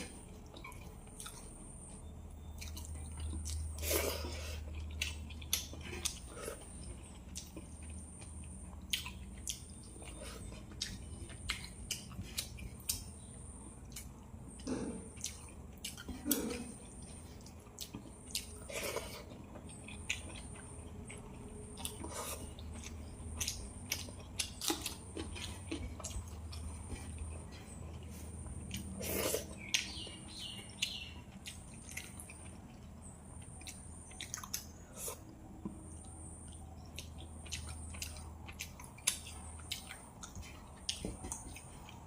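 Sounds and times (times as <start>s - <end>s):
wet chewing: 0.0s - 42.0s.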